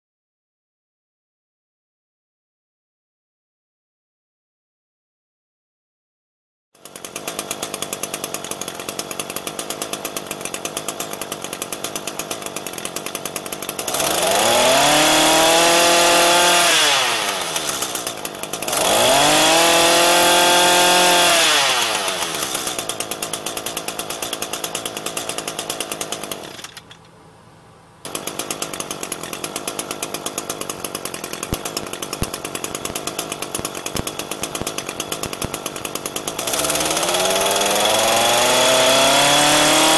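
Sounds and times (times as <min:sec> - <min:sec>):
brush cutter engine revving: 0:06.8 - 0:27.0, 0:28.0 - 0:39.9.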